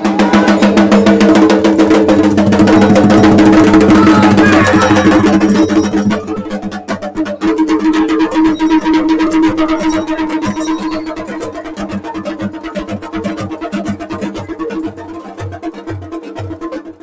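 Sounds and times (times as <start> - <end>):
drums beaten fast: 0.0 - 17.0.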